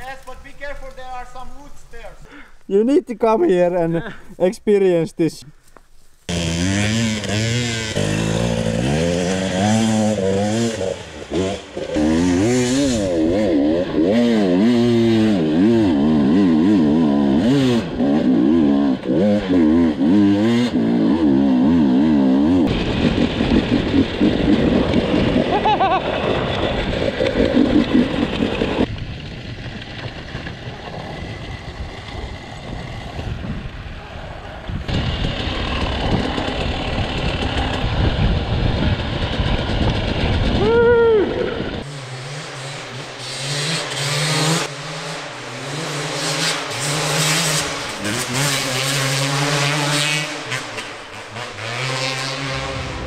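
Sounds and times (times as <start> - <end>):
motorcycle engine revving: 6.3 - 53.0.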